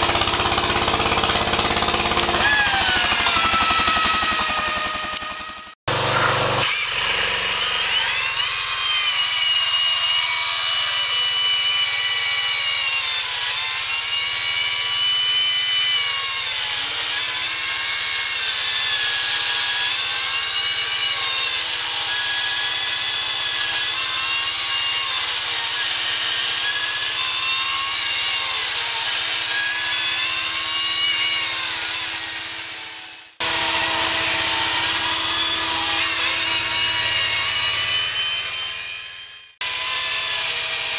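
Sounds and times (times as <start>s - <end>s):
power saw whining: 0.0s - 40.9s.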